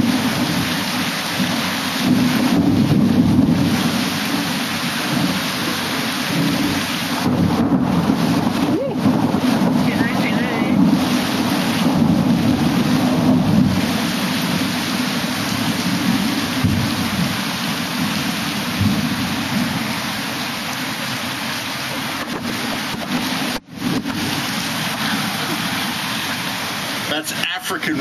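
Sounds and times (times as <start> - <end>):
low rolling thunder rumble: 0.0 - 27.1
heavy rain pouring: 0.0 - 28.0.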